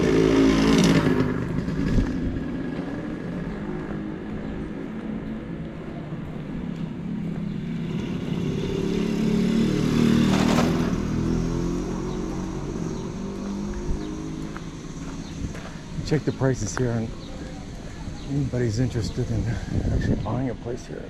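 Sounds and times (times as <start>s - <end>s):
vehicle engine passing by: 0.0s - 19.7s.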